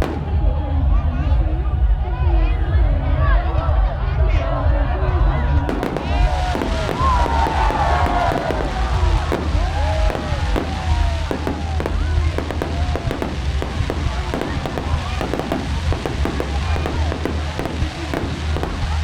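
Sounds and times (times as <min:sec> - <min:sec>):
fireworks bangs and crackles: 0:00.0 - 0:01.4, 0:05.2 - 0:19.0
low rumble: 0:00.0 - 0:19.0.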